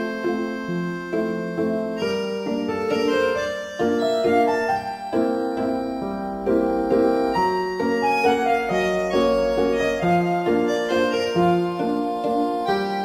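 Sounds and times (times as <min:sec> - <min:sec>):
keyboard tune over chords: 0:00.0 - 0:13.0.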